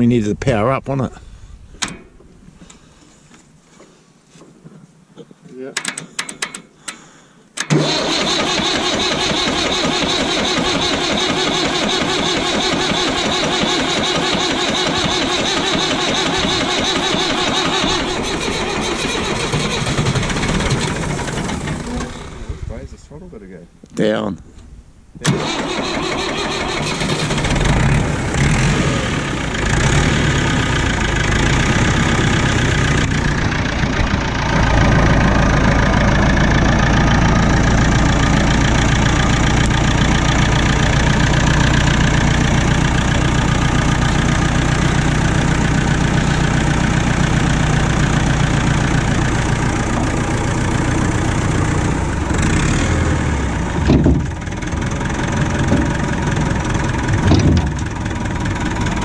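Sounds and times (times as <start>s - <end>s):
tractor engine running: 7.6s - 22.8s, 25.2s - 59.0s.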